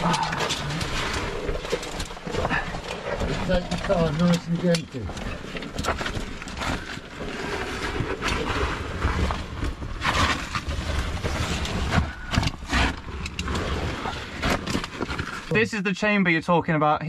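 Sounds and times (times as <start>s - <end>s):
camera handling rumble: 0.0s - 15.5s
gear scraping and knocking on rock: 0.0s - 15.7s.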